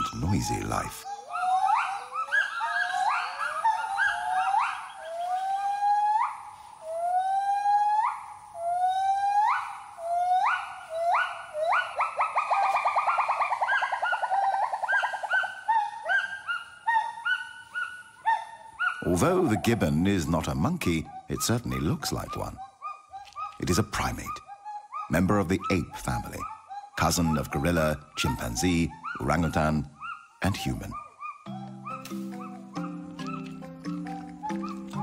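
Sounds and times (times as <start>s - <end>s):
gibbon whooping calls: 0.0s - 19.4s, 21.1s - 35.0s.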